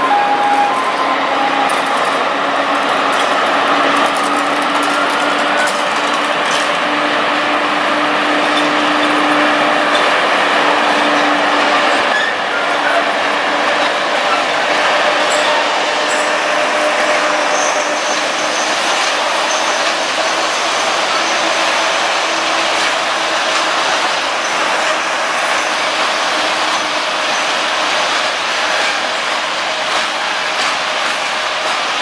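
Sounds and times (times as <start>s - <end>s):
freight train passing: 0.0s - 32.0s
locomotive steady drone: 0.0s - 32.0s.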